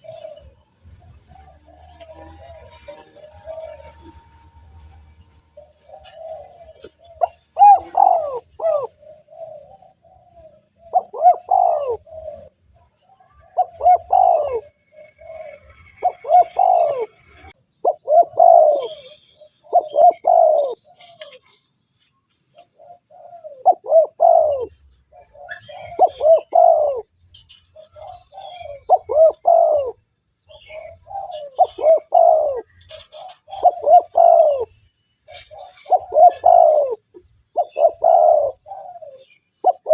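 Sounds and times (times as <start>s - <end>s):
dove cooing: 0.0s - 21.6s, 22.7s - 39.9s.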